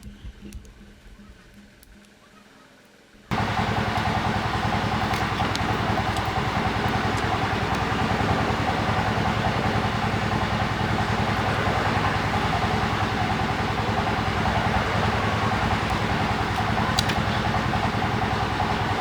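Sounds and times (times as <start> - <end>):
engine-like running noise: 3.3 - 19.0.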